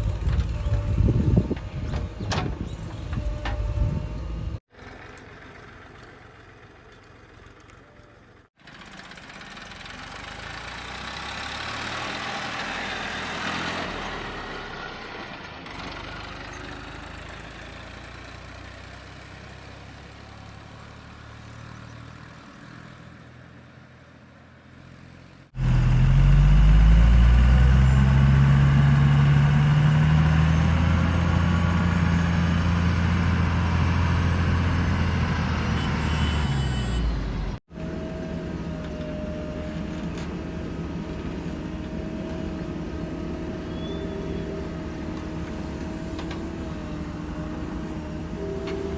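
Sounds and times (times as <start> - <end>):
diesel engines running: 0.0 - 48.9
loud engine close by: 8.4 - 48.9.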